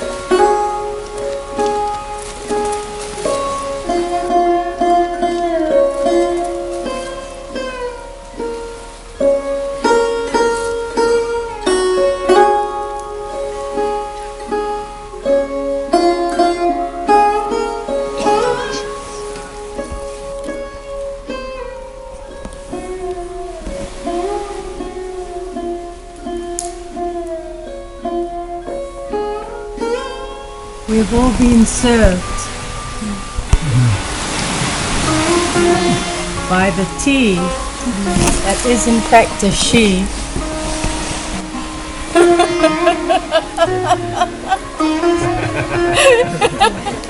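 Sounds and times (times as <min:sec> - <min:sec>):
acoustic guitar strumming chords: 0:00.0 - 0:47.0
plucked string instrument: 0:00.0 - 0:47.0.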